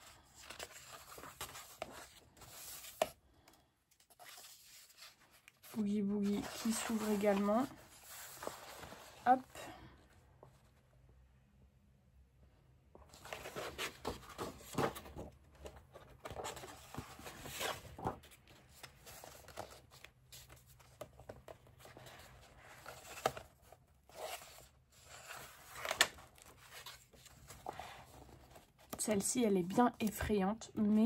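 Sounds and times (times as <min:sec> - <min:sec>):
paper pages rustling: 0:00.0 - 0:03.2, 0:03.9 - 0:09.6, 0:13.0 - 0:31.0.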